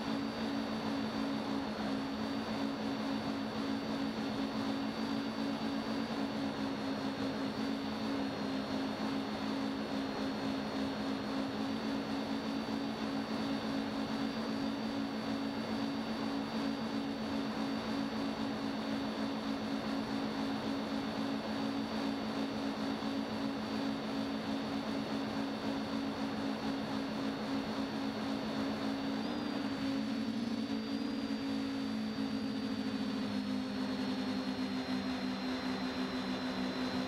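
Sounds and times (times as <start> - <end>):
drone motors and propellers humming: 0.0 - 37.0.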